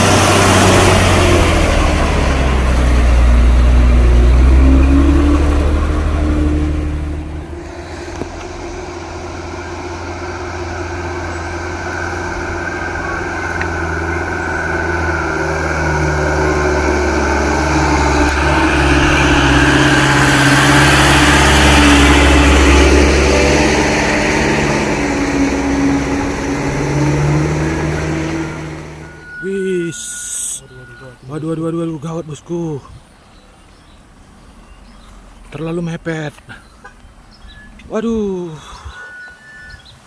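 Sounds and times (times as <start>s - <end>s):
vehicle engine under heavy load: 0.0s - 40.0s.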